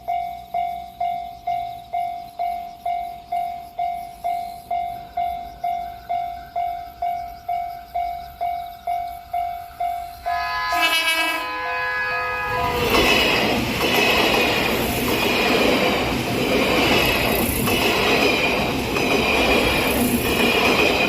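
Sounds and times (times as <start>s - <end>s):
approaching train: 0.0s - 21.0s
level-crossing warning bell: 0.0s - 21.0s.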